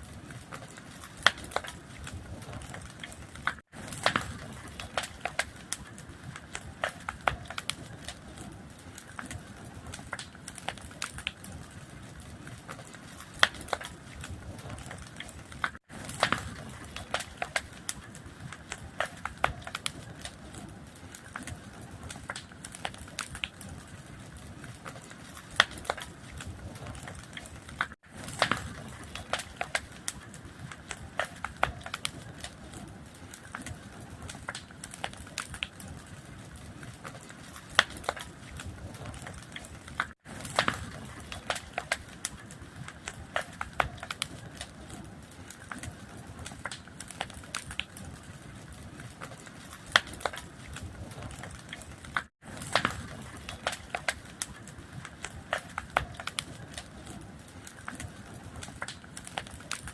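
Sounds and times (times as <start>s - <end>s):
low rush of flame: 0.0s - 59.9s
wood fire crackling and popping: 0.0s - 59.9s.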